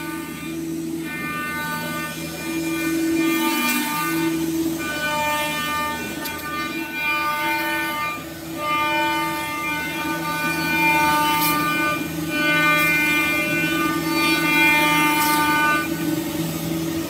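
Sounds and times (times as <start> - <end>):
router spindles whining: 0.0 - 17.0.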